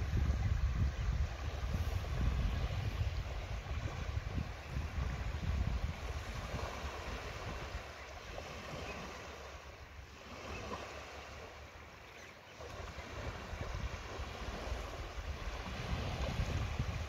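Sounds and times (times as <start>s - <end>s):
wind rumbling on microphone: 0.0s - 11.6s, 12.6s - 17.0s
waves lapping at shoreline: 0.0s - 17.0s.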